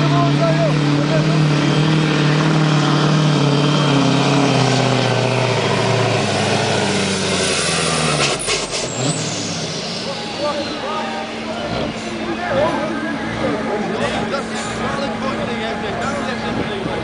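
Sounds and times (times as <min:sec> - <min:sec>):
diesel truck engine at full throttle: 0:00.0 - 0:17.0.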